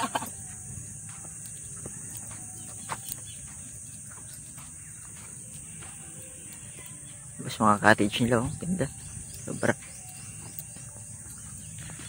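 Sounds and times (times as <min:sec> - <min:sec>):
footsteps on a dirt road: 0:00.0 - 0:12.0
high-pitched insect drone: 0:00.0 - 0:12.0.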